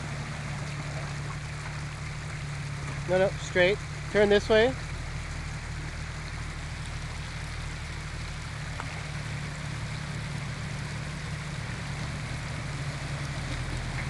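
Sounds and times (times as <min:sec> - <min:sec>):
car engine running low: 0:00.0 - 0:14.0
running water hiss: 0:00.0 - 0:14.0.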